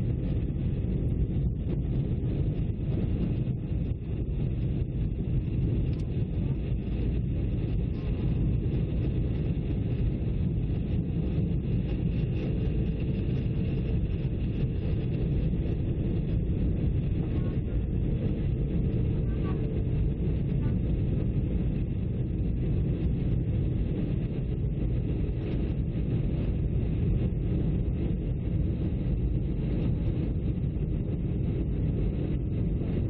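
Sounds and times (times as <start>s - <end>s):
jet airliner cabin roar: 0.0s - 33.0s.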